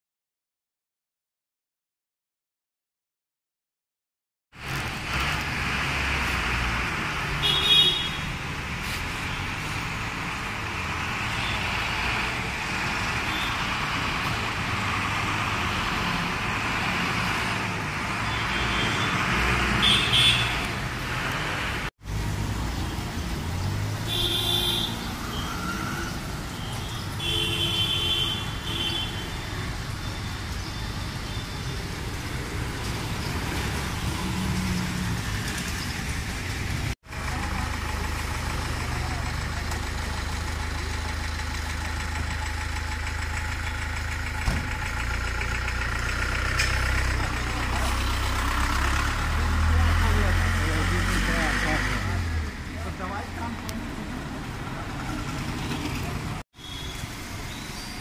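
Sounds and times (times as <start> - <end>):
hum of passing vehicles: 4.6 - 58.0.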